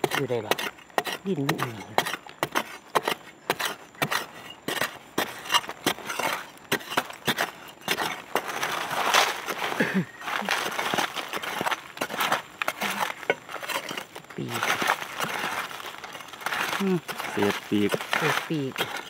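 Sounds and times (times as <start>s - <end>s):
loose earth falling: 0.0s - 19.0s
spade stabbing into dry soil: 0.0s - 19.0s.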